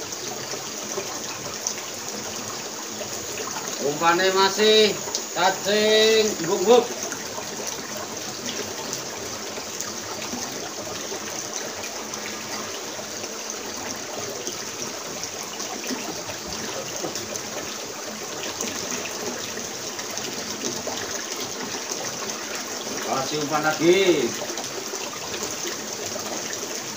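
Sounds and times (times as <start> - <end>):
river water running: 0.0 - 26.9.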